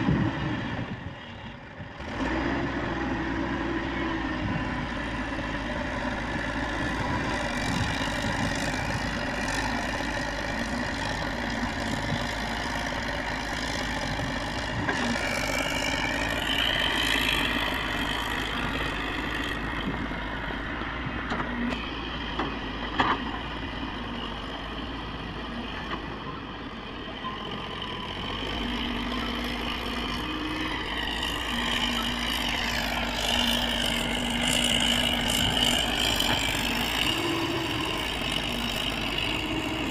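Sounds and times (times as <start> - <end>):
excavator diesel engine running: 0.0 - 39.9
hydraulic whine: 2.0 - 39.9.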